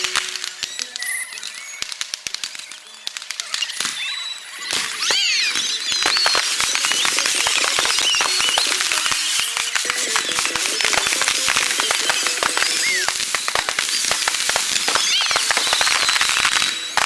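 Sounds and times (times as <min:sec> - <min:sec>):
fireworks crackling: 0:00.0 - 0:17.0
falling whistle: 0:02.9 - 0:17.0.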